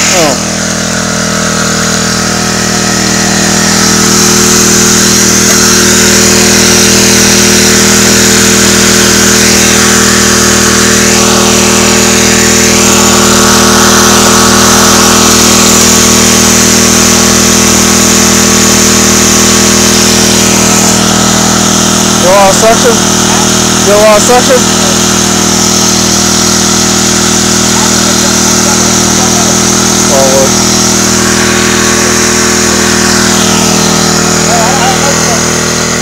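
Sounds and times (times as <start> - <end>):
small gasoline engine running: 0.0 - 36.0.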